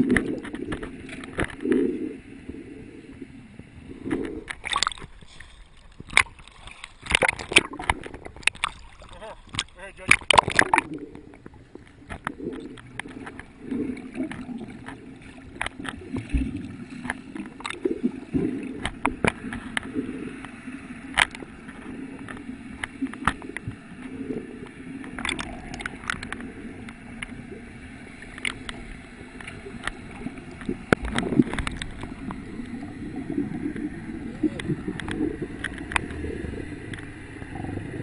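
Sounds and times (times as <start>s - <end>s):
sharp clicks and pops: 0.0s - 1.9s, 4.0s - 5.3s, 5.9s - 8.8s, 9.4s - 27.4s, 28.2s - 32.8s, 33.6s - 37.6s
muffled underwater rumble: 0.0s - 38.0s.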